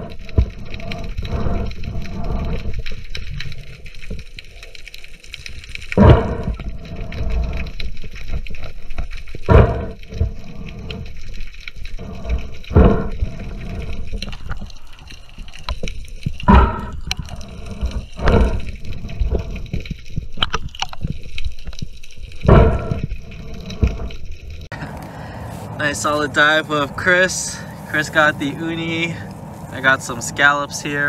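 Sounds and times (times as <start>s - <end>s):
muffled underwater water wash: 0.0s - 31.0s.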